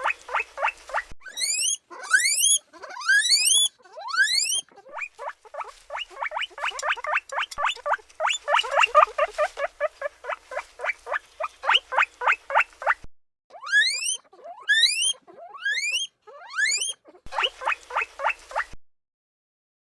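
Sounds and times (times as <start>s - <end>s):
guinea pig squeaking: 0.0s - 18.8s
guinea pig wheeking: 0.0s - 18.8s.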